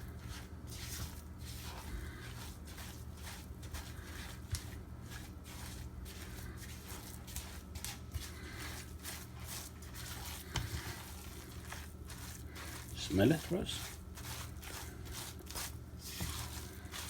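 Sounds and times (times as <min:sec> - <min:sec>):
mixture squishing in a bowl: 0:00.0 - 0:17.0.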